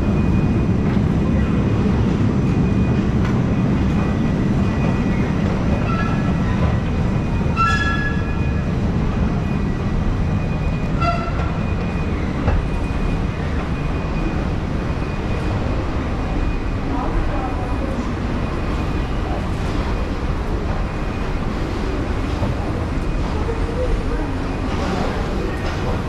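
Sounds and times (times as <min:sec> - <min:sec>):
escalator mechanical rumble: 0:00.0 - 0:26.0
high-pitched escalator squeals: 0:00.0 - 0:26.0.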